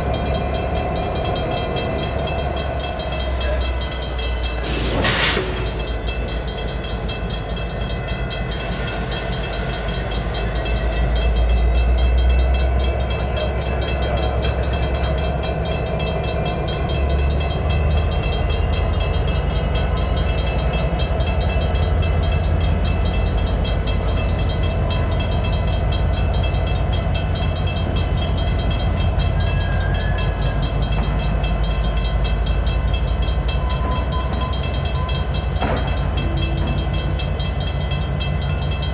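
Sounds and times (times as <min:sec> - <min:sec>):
crossing bell ringing: 0:00.0 - 0:38.9
diesel locomotive rumble: 0:00.0 - 0:38.9.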